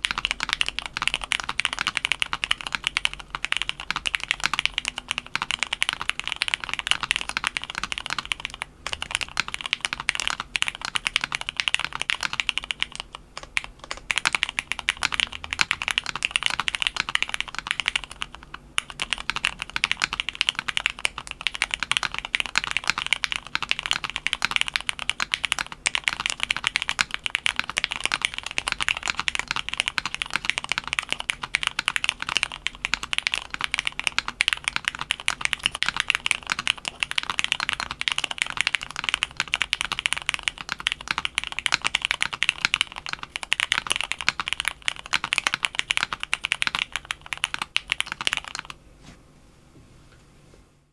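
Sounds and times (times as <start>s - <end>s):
mechanical keyboard typing: 0.0s - 48.8s.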